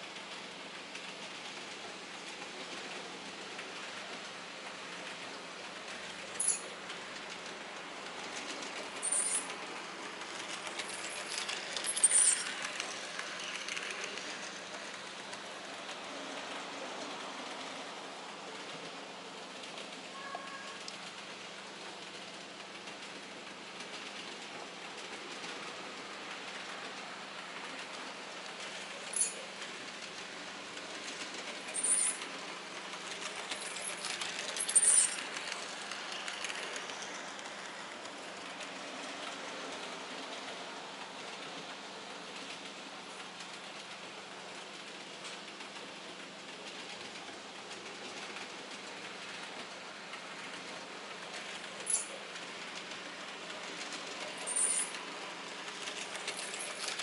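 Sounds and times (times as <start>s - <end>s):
model train running on track: 0.0s - 57.0s
wheels clicking over rail joints: 0.1s - 21.6s, 22.2s - 57.0s.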